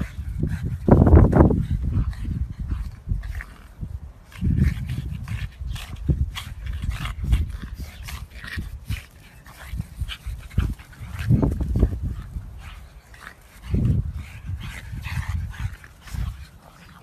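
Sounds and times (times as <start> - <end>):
dogs play-fighting noises: 0.0 - 17.0.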